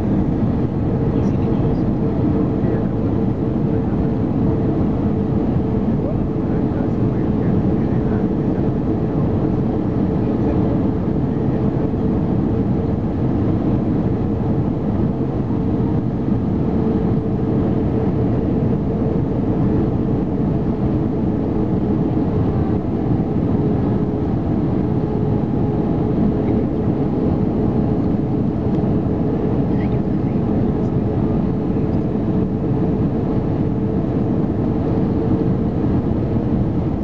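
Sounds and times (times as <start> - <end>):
airliner cabin engine and airflow noise: 0.0 - 37.0.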